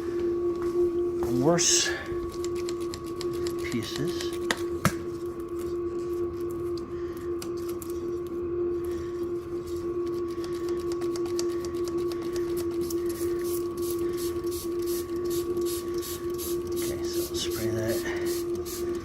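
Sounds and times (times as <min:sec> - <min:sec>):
small electric motor humming: 0:01.6 - 0:19.0.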